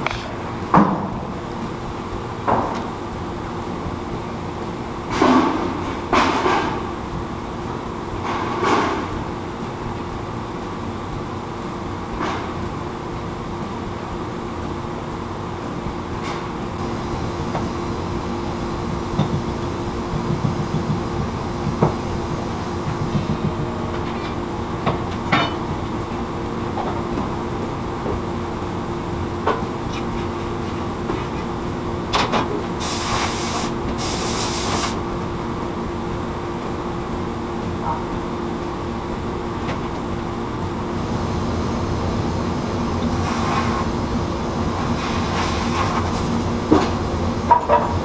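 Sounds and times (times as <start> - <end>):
machinery drone: 0.0 - 48.0.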